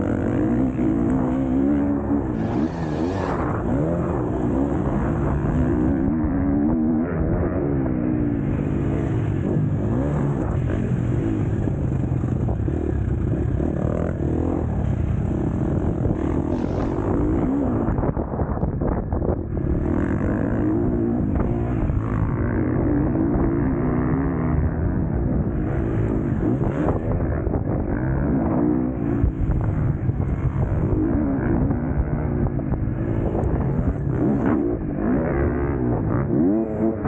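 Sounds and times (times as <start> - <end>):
motocross bike engine racing: 0.0 - 37.0.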